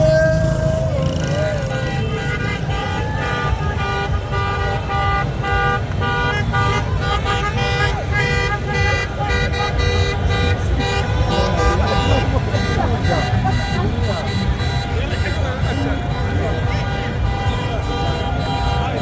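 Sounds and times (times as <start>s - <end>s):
car horns honking: 0.0s - 19.0s
low rumble of traffic: 0.0s - 19.0s.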